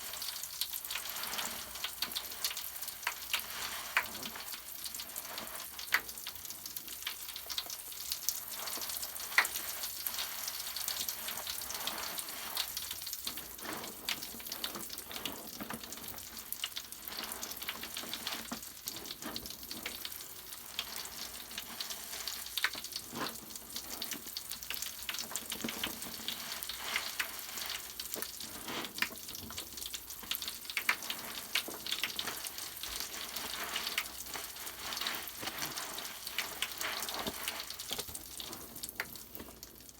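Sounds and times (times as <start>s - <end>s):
bath foam bubbles crackling: 0.0s - 39.9s.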